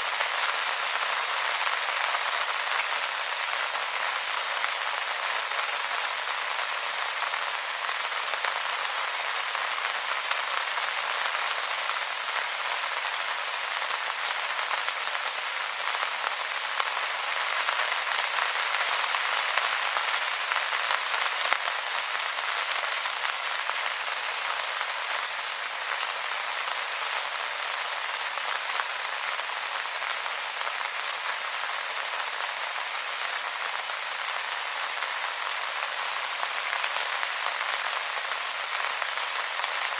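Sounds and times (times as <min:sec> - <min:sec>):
rain falling on wet leaves: 0:00.0 - 0:39.9.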